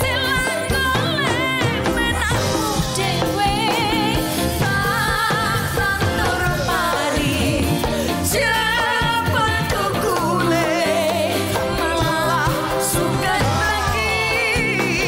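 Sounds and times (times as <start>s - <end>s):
live band playing: 0.0s - 15.0s
man and woman singing: 0.0s - 15.0s.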